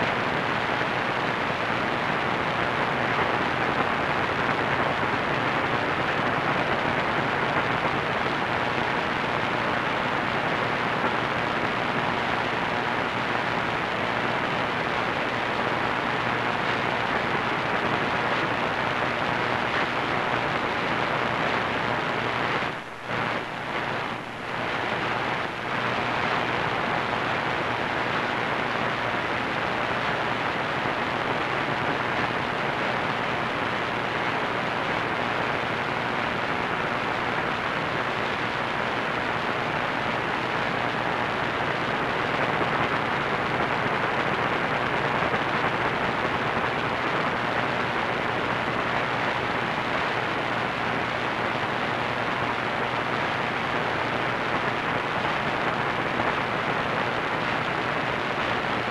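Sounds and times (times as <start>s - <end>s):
radio static hiss: 0.0s - 58.9s.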